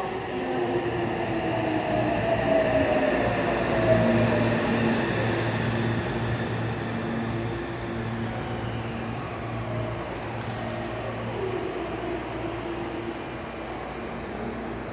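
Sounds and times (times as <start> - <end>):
electric train rolling to a stop: 0.0 - 14.9.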